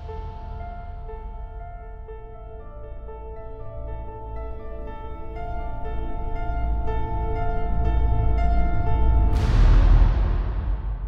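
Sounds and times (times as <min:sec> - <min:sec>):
deep drone: 0:00.0 - 0:11.0
slow ambient music: 0:00.0 - 0:11.0.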